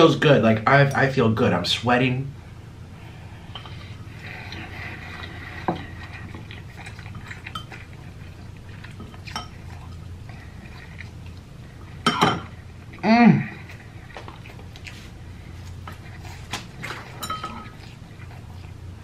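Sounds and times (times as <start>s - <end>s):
quiet chewing: 2.9s - 19.0s.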